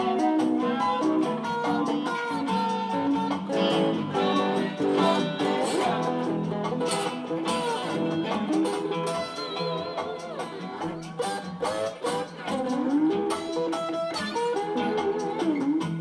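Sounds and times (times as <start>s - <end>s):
acoustic guitar playing blues: 0.0s - 16.0s
slide guitar: 0.0s - 16.0s.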